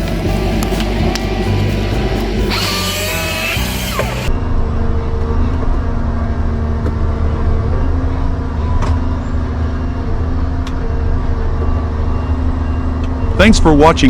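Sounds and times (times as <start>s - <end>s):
large engine humming: 0.0s - 14.0s.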